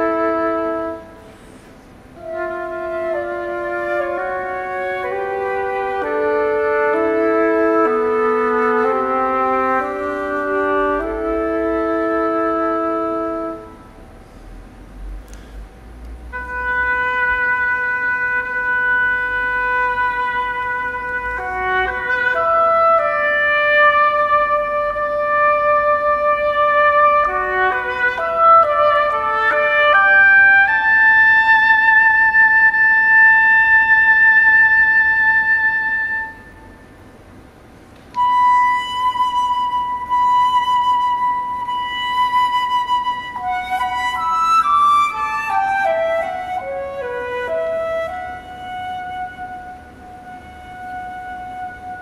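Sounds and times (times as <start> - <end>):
flute and oboe duo: 0.0 - 14.2, 15.3 - 52.0.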